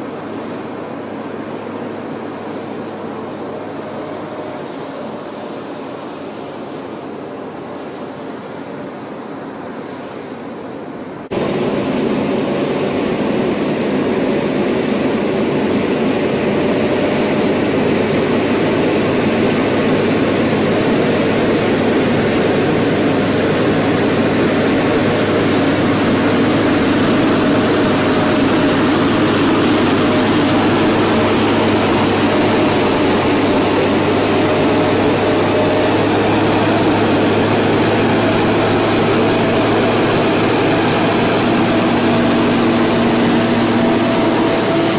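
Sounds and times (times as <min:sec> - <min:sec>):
heavy truck engine rolling past: 0:00.0 - 0:44.9.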